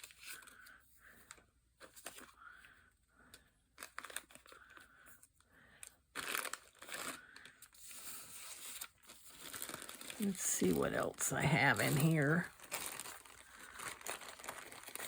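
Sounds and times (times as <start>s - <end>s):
paper rustling and crinkling: 0.0s - 2.7s, 3.3s - 15.0s.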